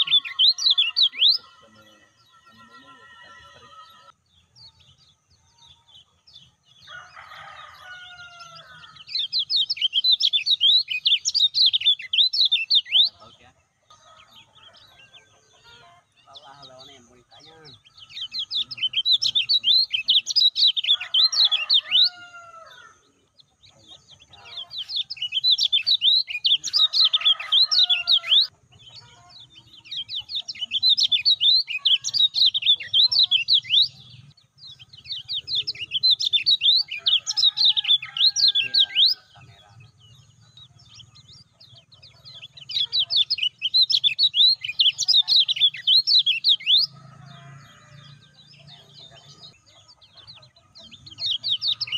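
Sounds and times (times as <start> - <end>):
bird high chattering song: 0.0 - 51.9.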